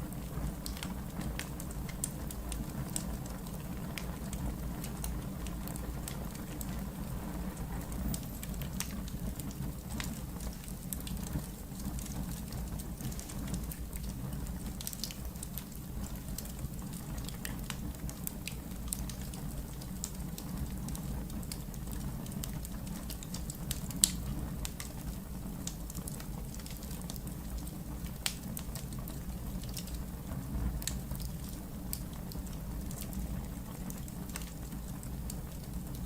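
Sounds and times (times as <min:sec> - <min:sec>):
fire crackling and popping: 0:00.0 - 0:36.0
low rumble of flames: 0:00.0 - 0:36.0.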